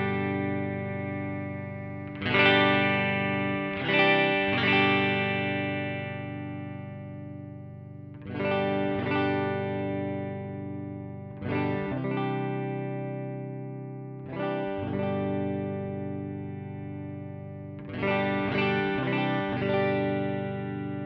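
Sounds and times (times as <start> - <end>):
electric guitar strumming chords: 0.0 - 21.0.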